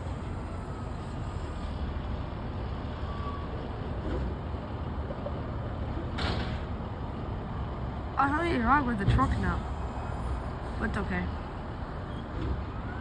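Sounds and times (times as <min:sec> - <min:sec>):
garbage truck engine rumbling: 0:00.0 - 0:13.0.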